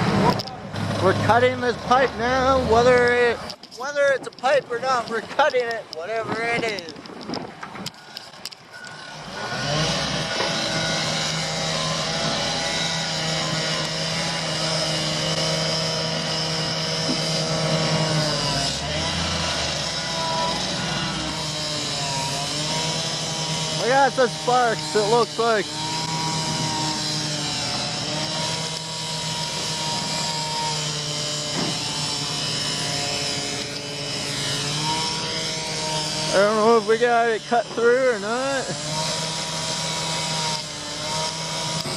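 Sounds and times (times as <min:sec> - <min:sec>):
pipe cutting machine engine: 0:07.8 - 0:41.9.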